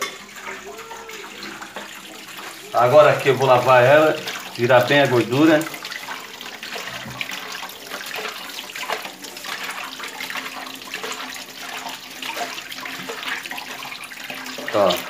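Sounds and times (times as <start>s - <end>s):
tap running into a metal pot: 0.0s - 2.6s, 4.0s - 15.0s.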